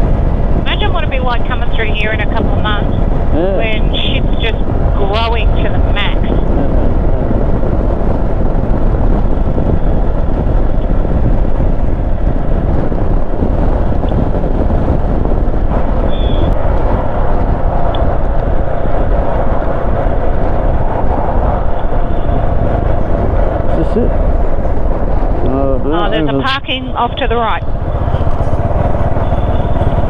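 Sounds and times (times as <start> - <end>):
motorcycle engine drone: 0.0 - 30.0
wind rush on microphone: 0.0 - 30.0.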